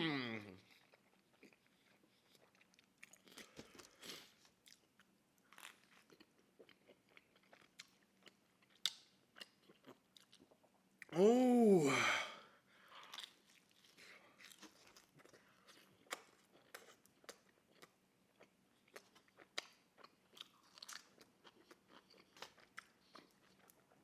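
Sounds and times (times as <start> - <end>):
chewing pizza crunches: 0.6 - 10.6, 12.9 - 24.0.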